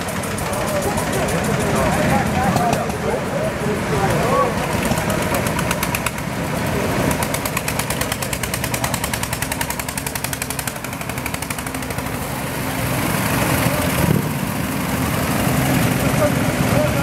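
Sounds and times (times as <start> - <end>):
other vehicle engines: 0.0 - 17.0
tractor engine knocking: 0.0 - 17.0.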